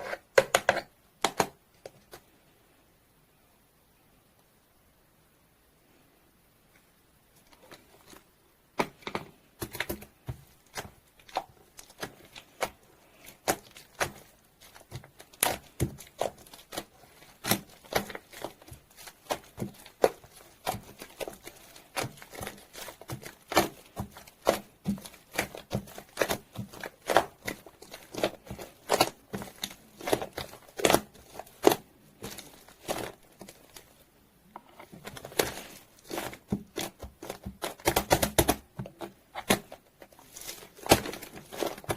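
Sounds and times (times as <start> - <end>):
sticky slime popping and crackling: 0.4 - 2.2, 8.8 - 34.0, 34.8 - 41.9.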